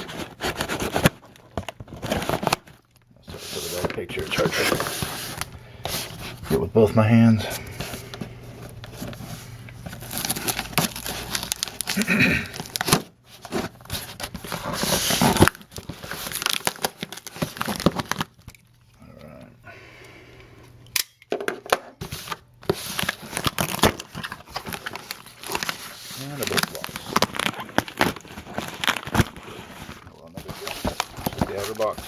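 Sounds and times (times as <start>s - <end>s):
packaging ripping and crinkling: 0.0s - 6.6s, 7.6s - 19.2s, 22.0s - 32.0s.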